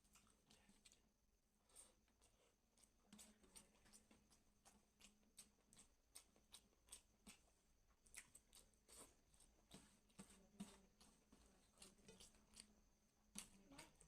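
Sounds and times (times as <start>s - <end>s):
close-up chewing of food: 0.0s - 14.0s.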